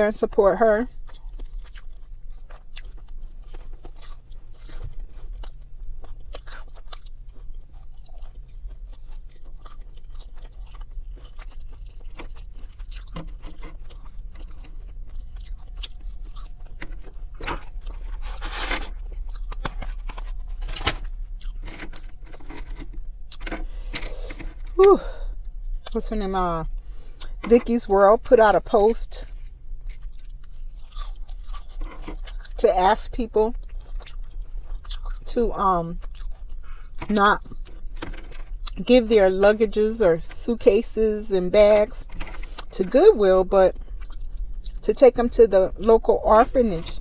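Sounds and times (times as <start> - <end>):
chewing and crunching food: 0.0 - 47.0.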